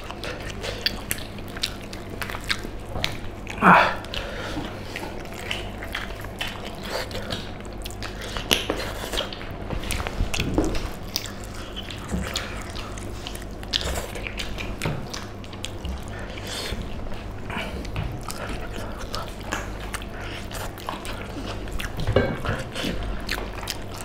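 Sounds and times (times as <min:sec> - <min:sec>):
people chewing and biting: 0:00.0 - 0:24.0.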